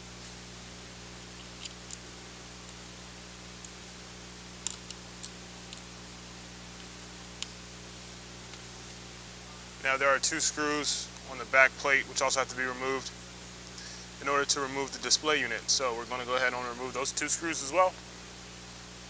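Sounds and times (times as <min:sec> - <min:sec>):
background hiss and hum: 0:00.0 - 0:19.0.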